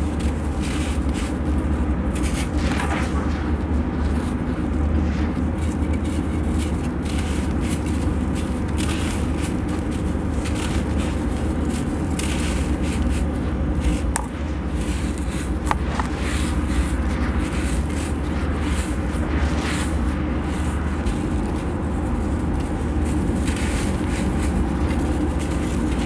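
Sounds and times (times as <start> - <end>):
low steady rumble: 0.0 - 26.0.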